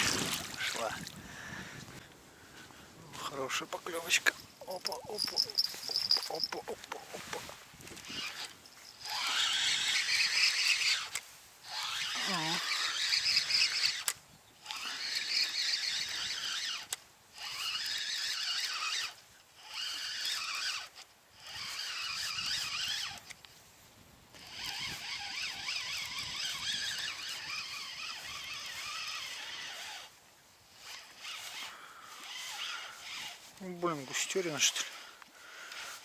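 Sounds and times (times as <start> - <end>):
fishing reel whirring: 4.0 - 23.5, 24.3 - 36.0.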